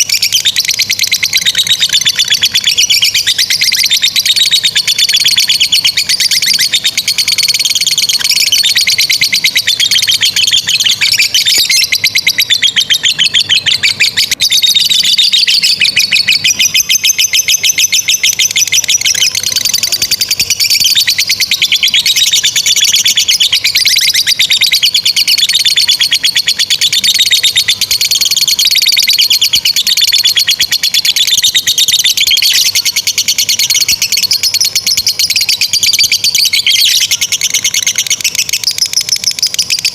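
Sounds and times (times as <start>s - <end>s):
lovebirds chattering trill: 0.0s - 39.9s.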